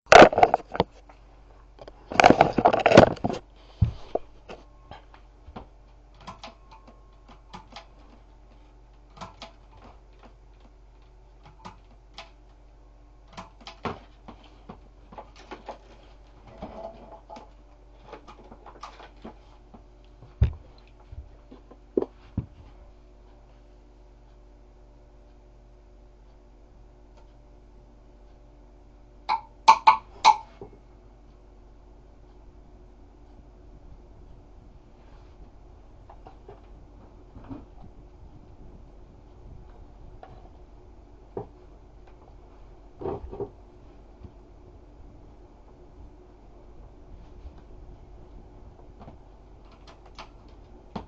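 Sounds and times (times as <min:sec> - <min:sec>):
ceiling fan motor hum: 0:00.1 - 0:51.0.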